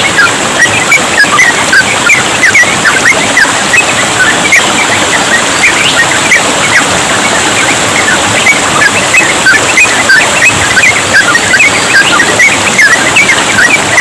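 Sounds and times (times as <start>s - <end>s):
bulbuls chirping: 0.0s - 14.0s
trickling water: 0.0s - 14.0s.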